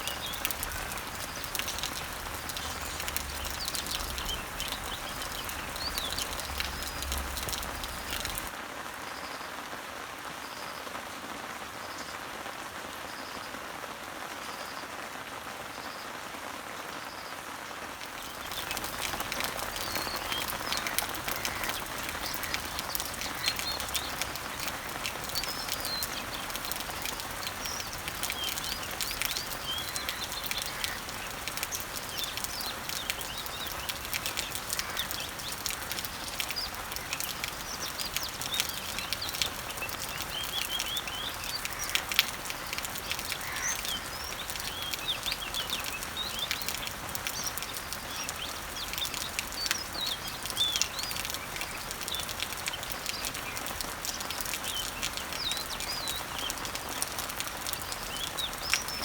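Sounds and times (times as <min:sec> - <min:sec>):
small birds chirping: 0:00.0 - 0:08.6, 0:18.0 - 0:59.0
rain pattering on leaves: 0:00.0 - 0:59.0.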